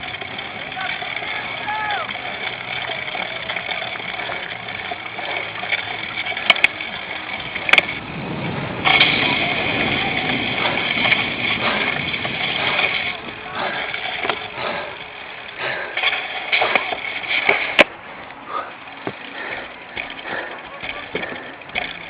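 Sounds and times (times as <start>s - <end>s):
bike riding wind and tyre rush: 0.0s - 22.0s.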